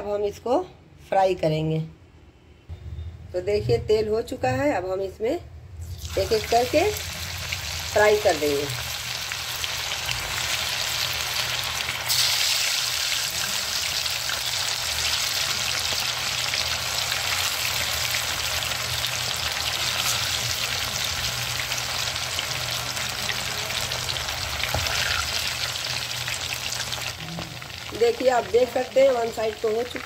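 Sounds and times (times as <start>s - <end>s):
chicken deep-frying in oil: 5.8s - 30.0s.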